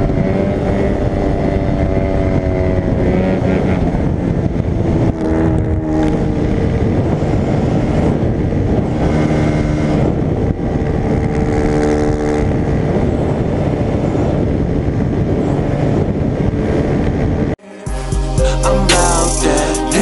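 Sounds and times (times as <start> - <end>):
dirt bike engine running: 0.0 - 17.5
wind rush on microphone: 0.0 - 17.6.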